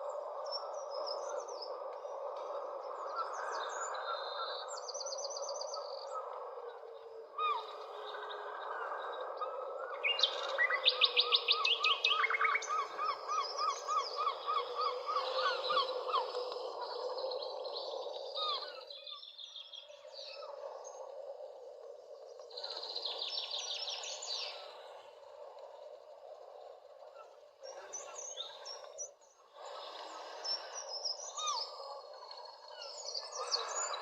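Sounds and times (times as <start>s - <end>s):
low repeated bird chirps: 0.0s - 34.0s.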